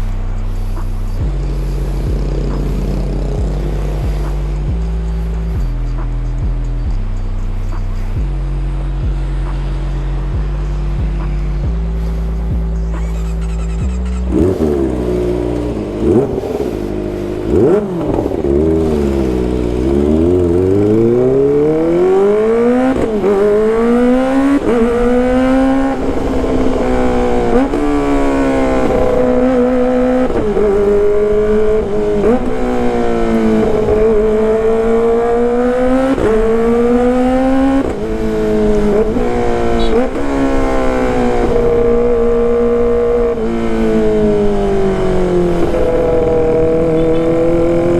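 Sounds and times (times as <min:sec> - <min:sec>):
motorcycle engine revving hard: 0:00.0 - 0:06.9, 0:12.5 - 0:47.9.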